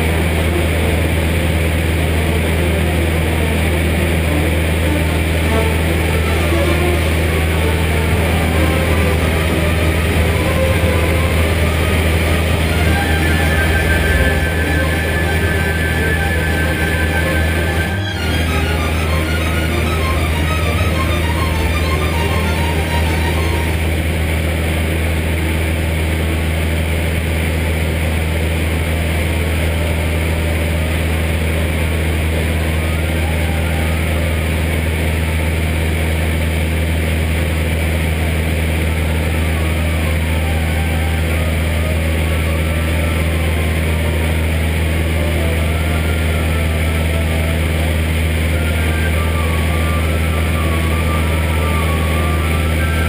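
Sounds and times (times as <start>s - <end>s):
propeller plane engine droning: 0.0s - 53.0s.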